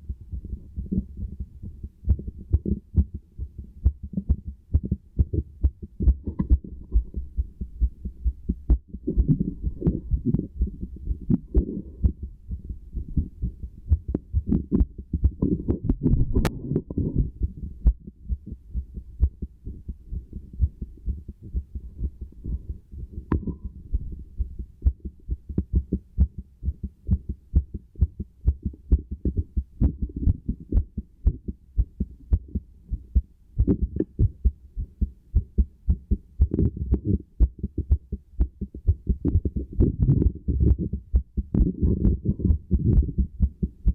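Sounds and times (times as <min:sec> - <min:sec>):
heartbeat thumps: 0:00.0 - 0:43.9.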